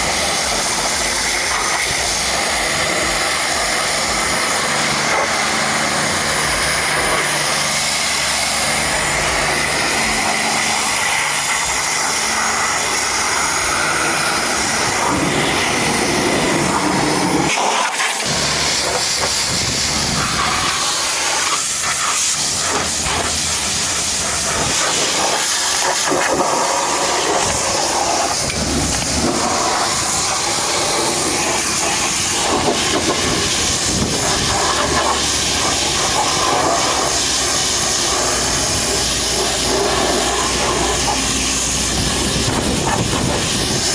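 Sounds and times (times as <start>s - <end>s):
pressure washer jet spraying: 0.0s - 43.9s.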